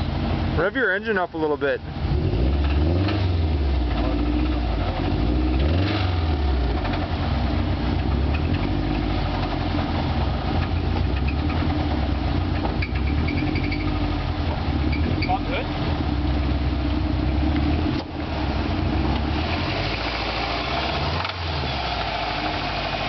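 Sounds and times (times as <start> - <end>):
car engine revving: 0.0 - 23.0
engine idling with knock: 1.4 - 5.7, 6.5 - 23.0.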